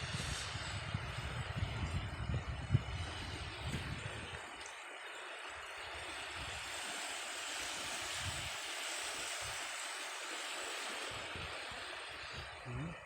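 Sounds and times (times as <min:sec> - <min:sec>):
sea waves washing onto shore: 0:00.0 - 0:13.0
wind rumbling on microphone: 0:00.0 - 0:13.0.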